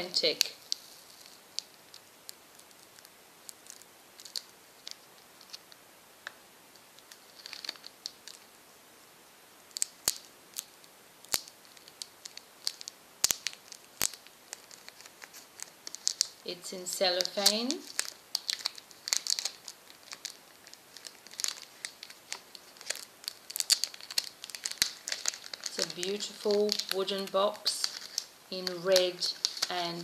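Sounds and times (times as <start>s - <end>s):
cellophane crinkling and tearing: 0.0s - 5.8s, 6.8s - 8.5s, 9.7s - 30.0s.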